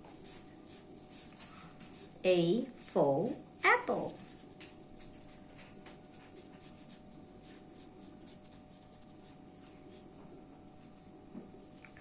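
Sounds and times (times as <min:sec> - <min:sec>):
colouring tool scratching paper: 0:00.0 - 0:10.2.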